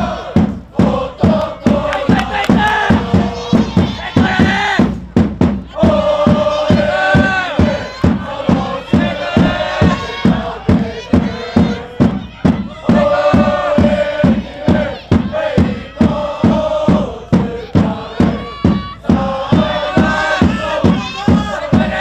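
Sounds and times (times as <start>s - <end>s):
crowd chanting: 0.0s - 22.0s
drum beat: 0.0s - 22.0s.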